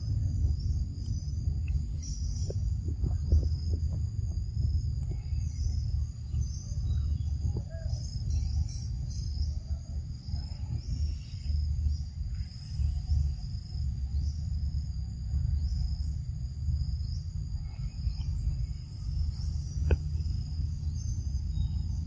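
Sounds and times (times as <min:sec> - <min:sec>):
insects trilling: 0:00.0 - 0:22.0
low rumble: 0:00.0 - 0:22.0.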